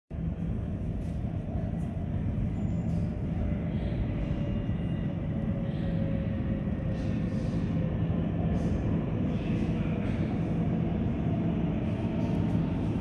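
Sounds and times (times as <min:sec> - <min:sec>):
low rumble of trains and machinery: 0:00.1 - 0:13.0.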